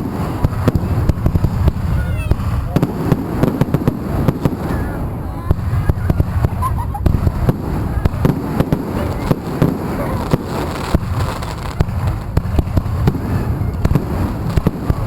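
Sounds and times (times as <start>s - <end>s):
fireworks popping and banging: 0.0s - 15.0s
low rumble of bursts: 0.0s - 15.0s.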